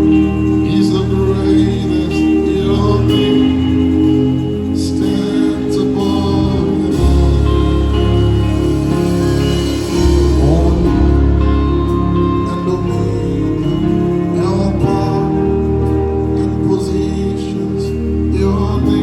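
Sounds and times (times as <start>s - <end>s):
gospel band playing: 0.0s - 19.0s
people singing: 0.0s - 19.0s.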